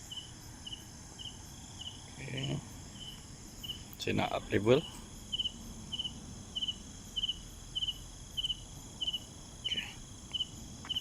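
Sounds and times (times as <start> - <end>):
crickets chirping: 0.0 - 11.0
faint high-pitched insect hum: 0.0 - 11.0.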